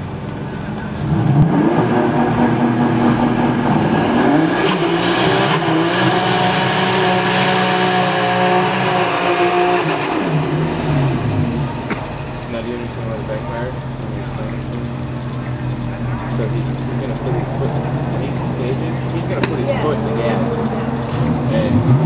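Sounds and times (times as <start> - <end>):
car engine revving: 0.0 - 22.0
tyres spinning: 0.0 - 22.0.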